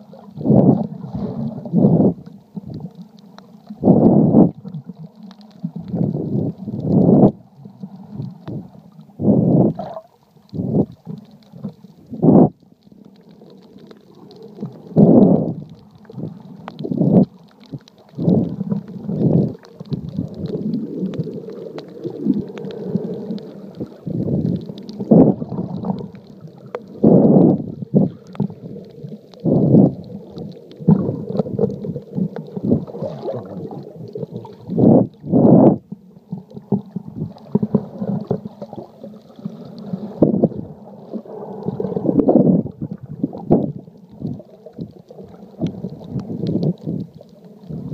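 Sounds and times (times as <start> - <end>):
muffled underwater sloshing: 0.0 - 47.9.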